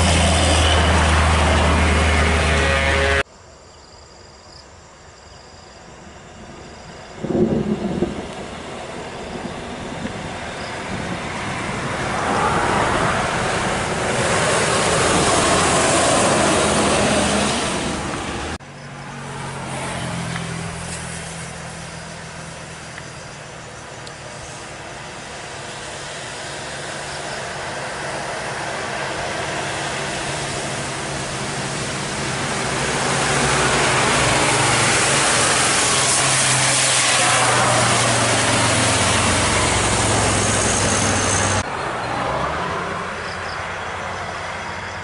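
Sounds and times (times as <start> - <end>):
heavy vehicle passing: 0.0 - 3.2, 7.3 - 45.0
vehicle engine low drone: 0.0 - 3.3, 5.9 - 45.0.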